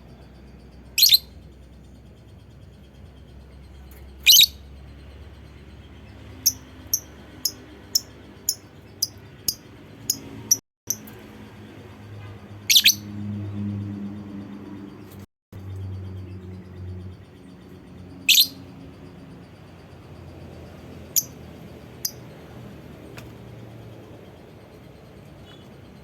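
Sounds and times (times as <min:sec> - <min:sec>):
bird chirping: 0:00.0 - 0:11.2, 0:12.6 - 0:26.0.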